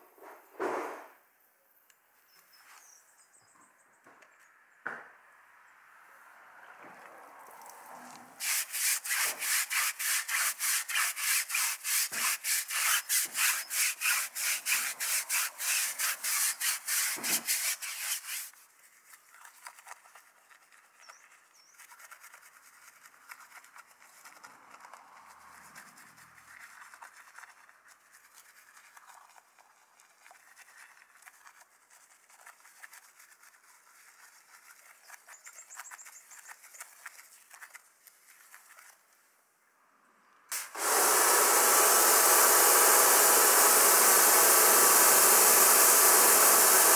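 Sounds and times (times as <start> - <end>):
brush scrubbing wet tyre: 7.1 - 39.2, 40.5 - 46.9.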